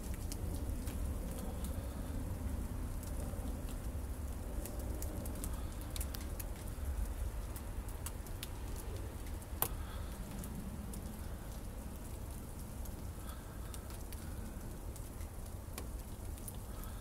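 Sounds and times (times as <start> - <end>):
light ticks: 0.0 - 1.8, 2.9 - 16.9.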